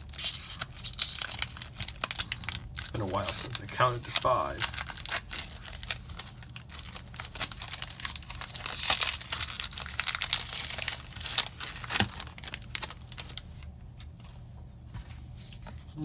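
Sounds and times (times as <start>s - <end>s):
foil wrapper crinkling: 0.0s - 14.2s.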